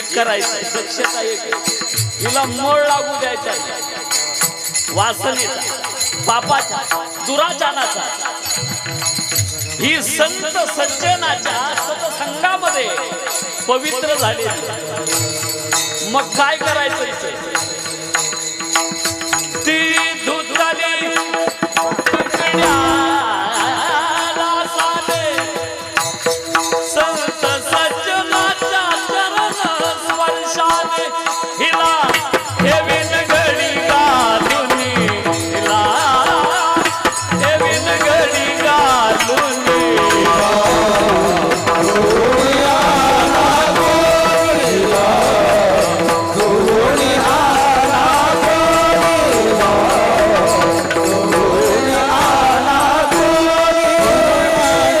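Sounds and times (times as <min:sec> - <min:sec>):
voices singing: 0:00.0 - 0:26.1, 0:26.8 - 0:55.0
jingling hand cymbals: 0:00.0 - 0:55.0.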